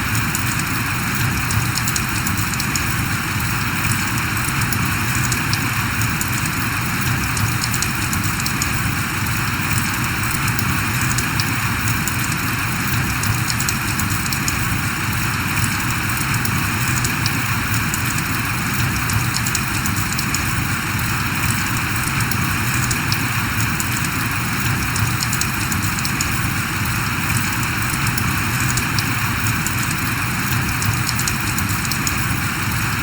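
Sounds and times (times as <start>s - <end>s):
raindrop ticks: 0.0s - 33.0s
steady rain falling: 0.0s - 33.0s.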